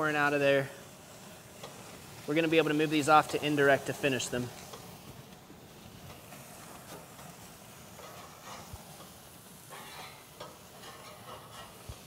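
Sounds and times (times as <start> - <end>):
fat crackling on coals: 0.0 - 12.0
patties sizzling over charcoal: 0.0 - 12.0.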